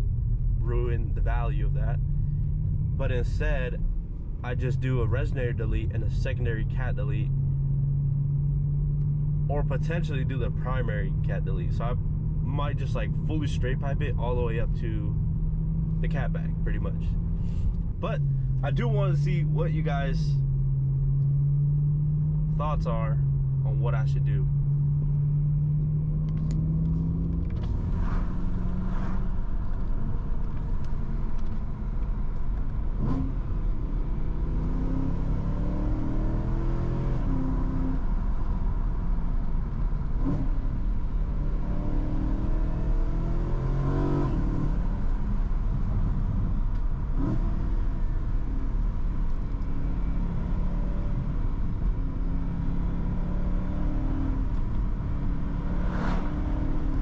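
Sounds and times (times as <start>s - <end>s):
car engine drone: 0.0s - 57.0s
road rumble: 0.0s - 57.0s.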